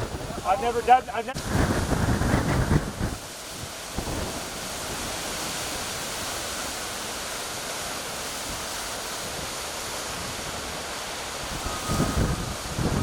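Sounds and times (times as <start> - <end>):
strong wind roaring: 0.0 - 6.8, 8.2 - 13.0.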